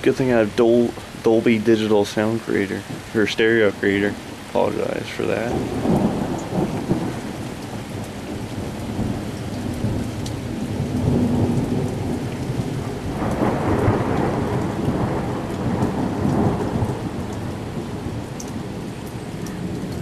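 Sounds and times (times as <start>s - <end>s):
heavy rain: 0.0s - 20.0s
low thunder rumbling: 0.0s - 20.0s.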